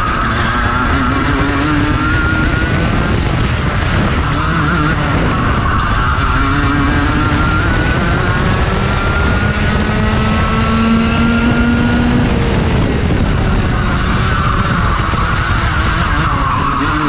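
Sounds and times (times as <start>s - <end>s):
kart engine revving: 0.0s - 17.0s.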